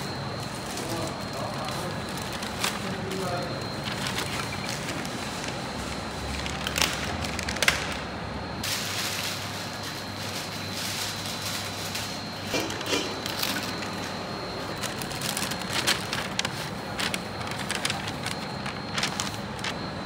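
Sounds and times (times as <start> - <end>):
kitchen hum: 0.0 - 20.0
paper bags crackling: 0.6 - 8.0, 8.6 - 20.0.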